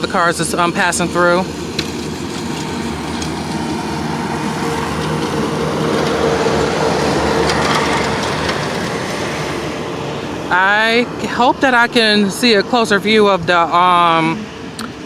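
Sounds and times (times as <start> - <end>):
highway traffic rushing: 0.0 - 15.0.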